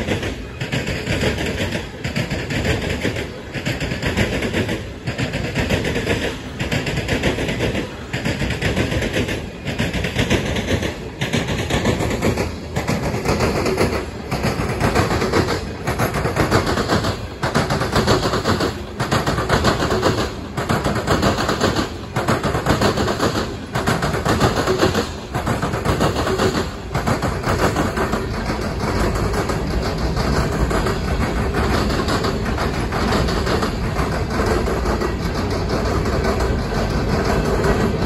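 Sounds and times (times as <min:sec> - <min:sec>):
freight train wheels clattering: 0:00.0 - 0:38.0.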